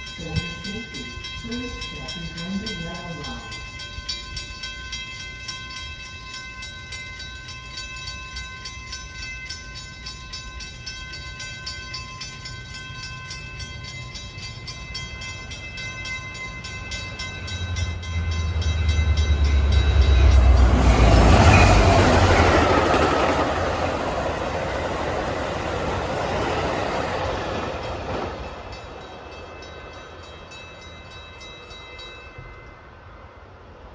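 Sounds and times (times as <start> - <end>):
steady high ringing tones: 0.0 - 33.4
train passing at speed: 0.0 - 33.9.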